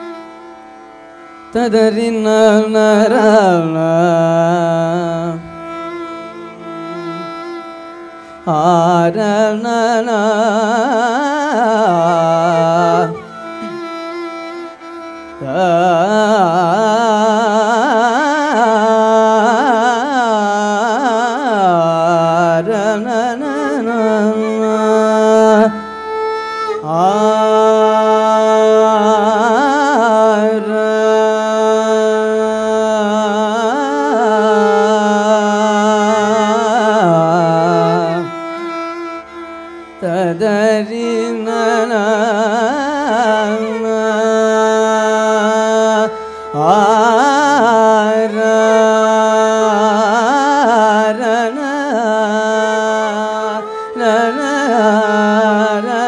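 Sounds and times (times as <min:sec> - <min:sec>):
violin accompaniment: 0:00.0 - 0:20.3, 0:21.7 - 0:56.0
young male voice singing: 0:01.3 - 0:56.0.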